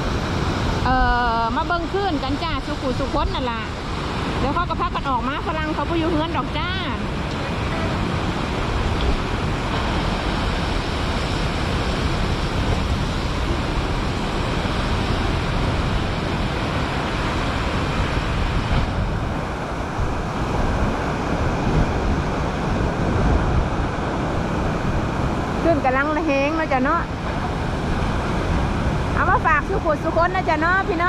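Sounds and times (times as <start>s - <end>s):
heavy sea surf: 0.0s - 31.0s
storm wind on microphone: 0.0s - 31.0s.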